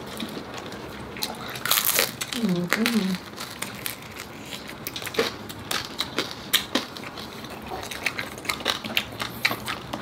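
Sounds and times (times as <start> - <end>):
crispy pork skin crunching: 0.0 - 10.0.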